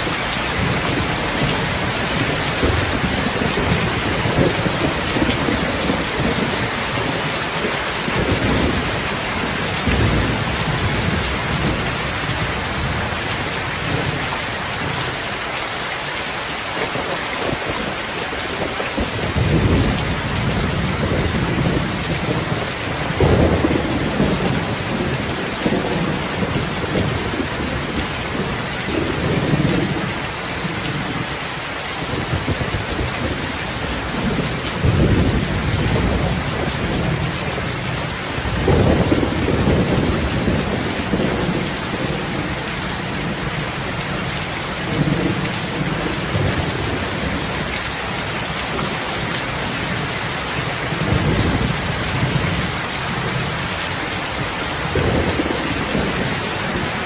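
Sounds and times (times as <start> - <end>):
heavy rain falling: 0.0 - 57.0
rolling thunder rumbles: 0.1 - 15.2, 17.0 - 31.4, 32.0 - 57.0.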